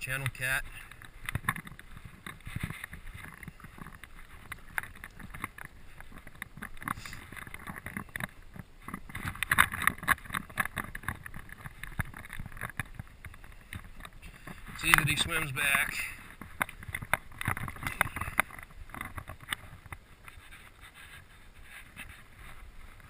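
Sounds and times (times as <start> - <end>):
footsteps on rocks: 0.2 - 23.0
clothing rubbing on camera: 0.9 - 23.0.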